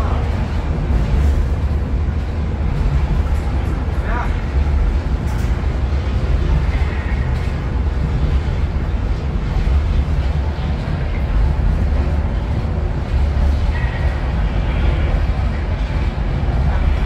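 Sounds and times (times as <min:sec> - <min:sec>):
funicular train low rumble: 0:00.0 - 0:17.0.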